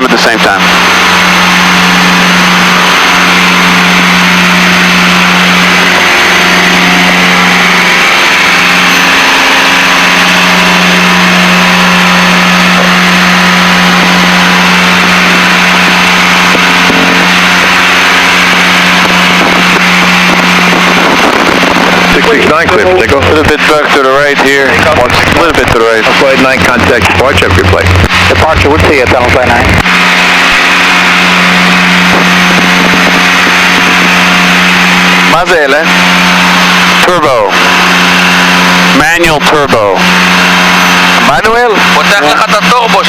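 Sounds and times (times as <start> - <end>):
propeller plane engines droning: 0.0 - 43.0.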